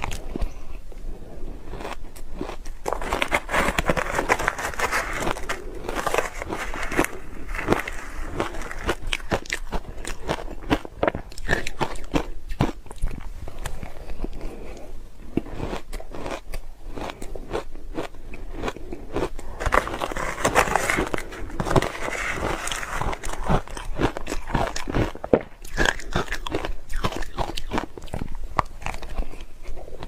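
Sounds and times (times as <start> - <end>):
person crunching ice: 1.7 - 14.6, 15.4 - 29.9.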